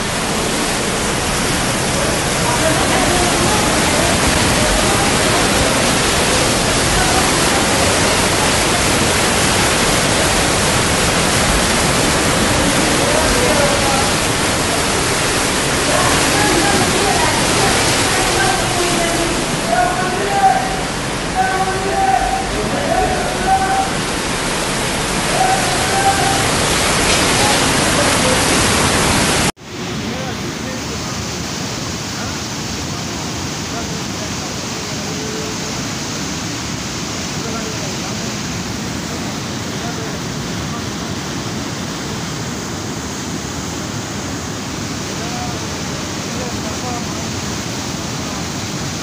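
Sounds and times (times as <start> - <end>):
faint voices: 0.0 - 42.4
floodwater rushing torrent: 0.0 - 49.0.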